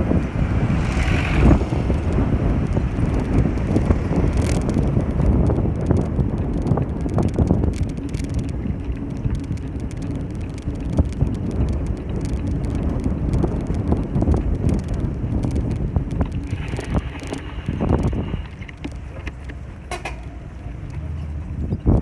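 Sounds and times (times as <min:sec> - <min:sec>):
bicycle tyre and frame noise: 0:00.0 - 0:22.0
small rattles and clicks: 0:00.0 - 0:22.0
wind rumbling on microphone: 0:00.0 - 0:22.0.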